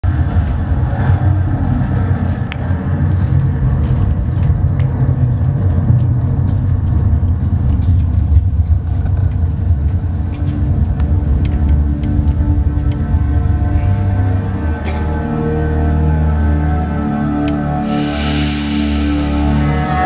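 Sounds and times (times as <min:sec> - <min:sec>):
deep rumbling drone: 0:00.0 - 0:20.0.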